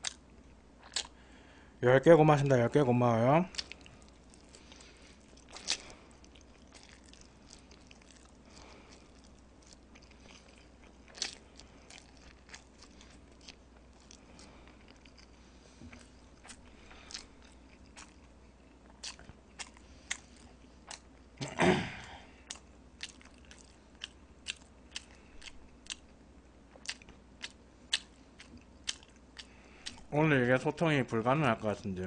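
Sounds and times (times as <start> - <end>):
chewing noodles: 0.8 - 1.2, 3.5 - 21.4, 22.4 - 30.1.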